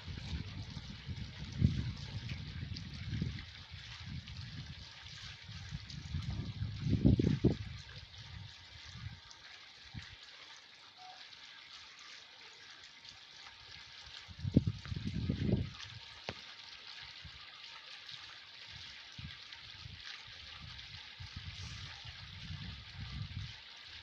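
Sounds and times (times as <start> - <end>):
fountain water trickling: 0.0 - 24.0.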